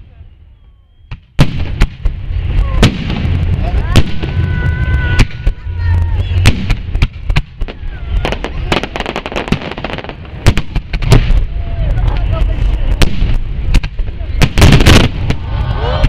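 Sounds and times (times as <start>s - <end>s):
fireworks bangs and crackles: 0.0s - 16.0s
low rumble: 1.5s - 9.3s, 10.1s - 16.0s.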